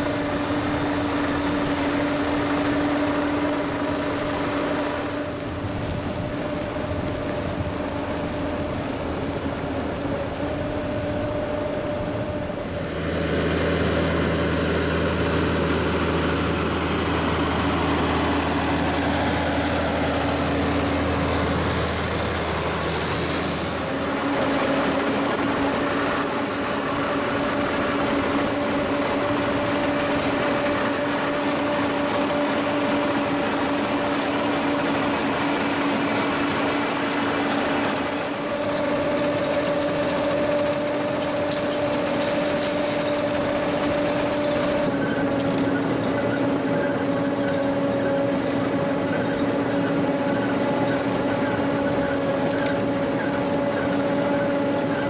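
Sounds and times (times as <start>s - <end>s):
harvester machinery droning: 0.0s - 55.0s.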